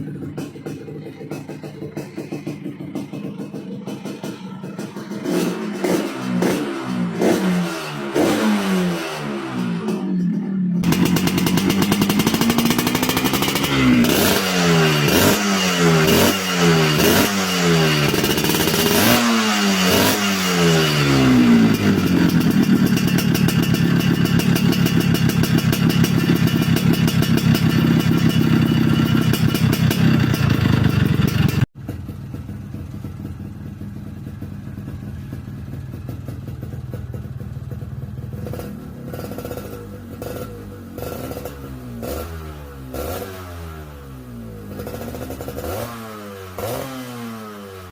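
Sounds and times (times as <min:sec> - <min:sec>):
two-stroke motorcycle engine revving: 0:00.0 - 0:32.1, 0:38.2 - 0:47.9.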